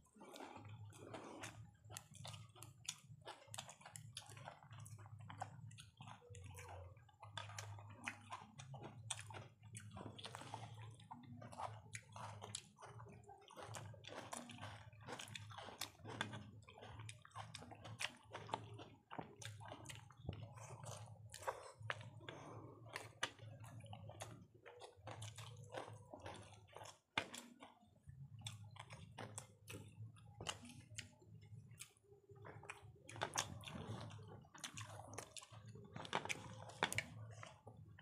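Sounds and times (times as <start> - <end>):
people chewing: 0.0 - 38.0.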